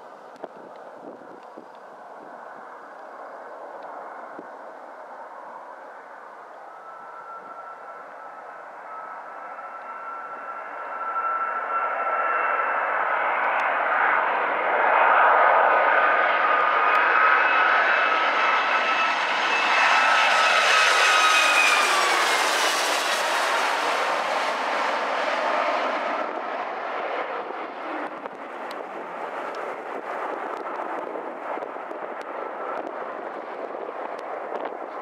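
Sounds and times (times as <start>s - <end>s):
jet engines roaring overhead: 0.0s - 35.0s.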